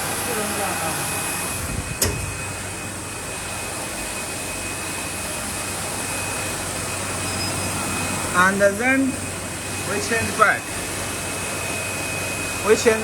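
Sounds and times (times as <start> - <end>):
machine whirring and whining: 0.0 - 13.0.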